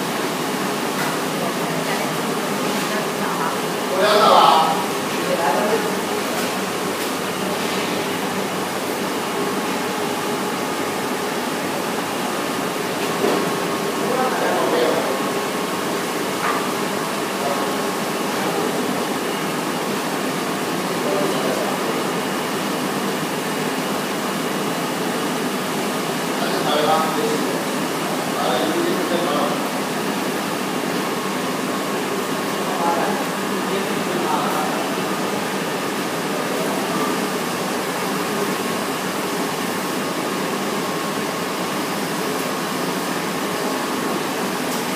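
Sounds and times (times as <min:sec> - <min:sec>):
cooling fans rushing: 0:00.0 - 0:44.9.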